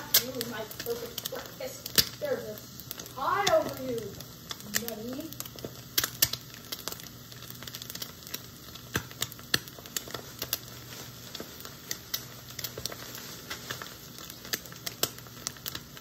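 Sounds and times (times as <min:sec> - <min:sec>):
eggs frying and popping: 0:00.0 - 0:16.0.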